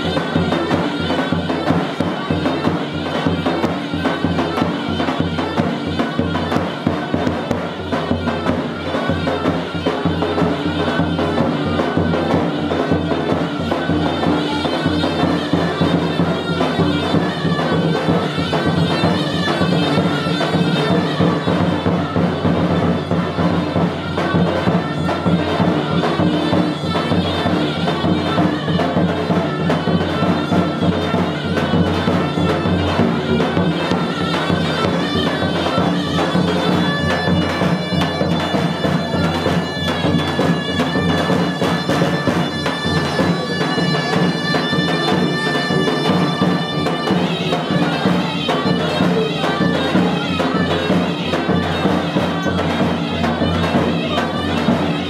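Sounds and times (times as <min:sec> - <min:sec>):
drum beats: 0:00.0 - 0:55.0
reedy wind instrument melody: 0:00.0 - 0:55.0.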